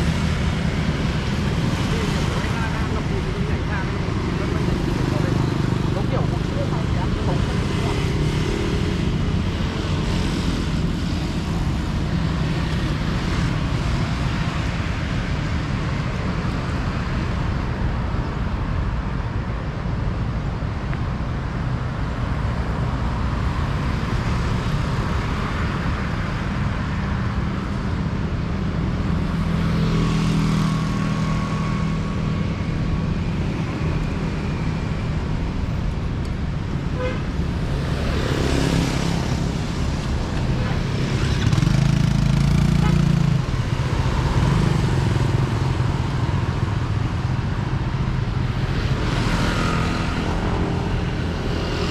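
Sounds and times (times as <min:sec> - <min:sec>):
road traffic passing: 0:00.0 - 0:51.9.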